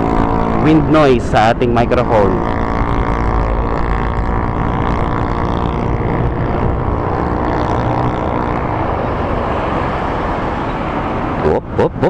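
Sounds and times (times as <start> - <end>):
motorcycle engine running: 0.0 - 10.6
wind and road noise: 0.0 - 12.0.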